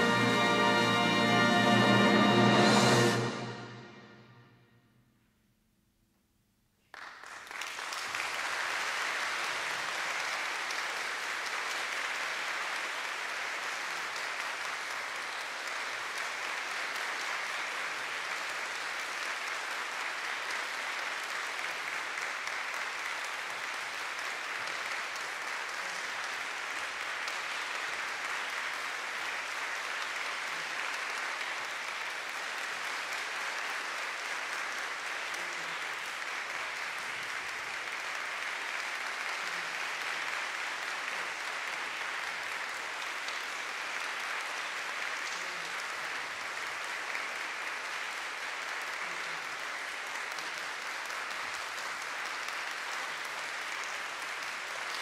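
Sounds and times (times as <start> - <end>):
audience applauding: 0.0 - 4.0, 6.9 - 55.0.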